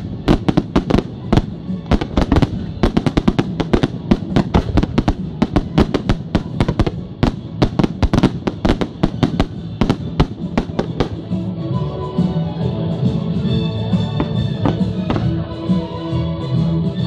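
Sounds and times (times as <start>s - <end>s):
fireworks bangs and crackles: 0.0s - 11.8s, 13.8s - 15.8s.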